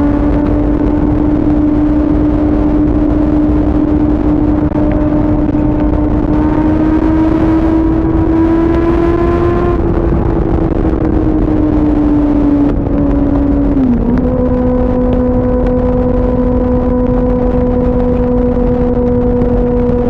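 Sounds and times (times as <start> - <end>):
motorcycle engine at speed: 0.0 - 20.0
wind rumble on microphone: 0.0 - 20.0.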